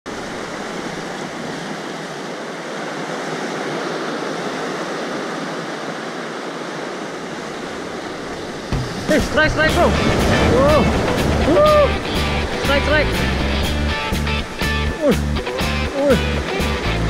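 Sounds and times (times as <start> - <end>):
surf washing over rocks: 0.1 - 17.0.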